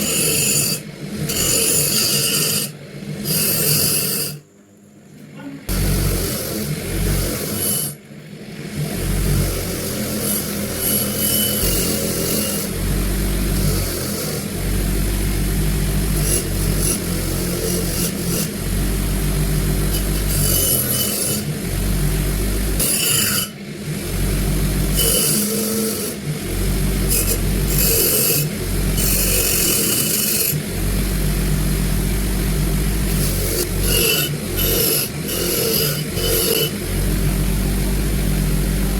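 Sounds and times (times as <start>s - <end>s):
abrasive scratching on metal: 0.0s - 4.4s, 9.3s - 37.4s
power tool running: 0.0s - 4.4s, 5.7s - 38.9s.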